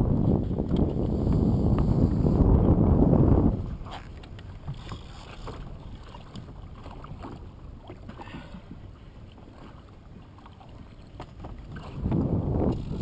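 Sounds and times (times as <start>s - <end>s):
low wind rumble: 0.0s - 13.0s
water slapping against boat hull: 0.2s - 13.0s.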